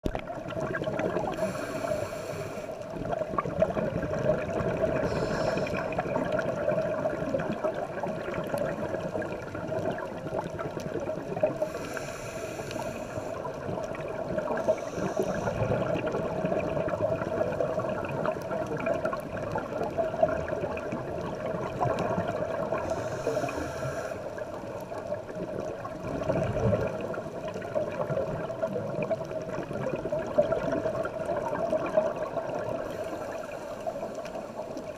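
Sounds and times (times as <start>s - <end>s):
regulator breathing and bubbling: 0.0s - 34.9s
underwater watery wash: 0.0s - 34.9s.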